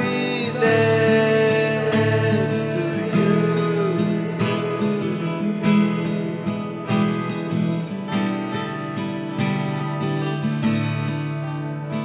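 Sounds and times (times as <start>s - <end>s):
strummed acoustic guitar song: 0.0s - 12.0s.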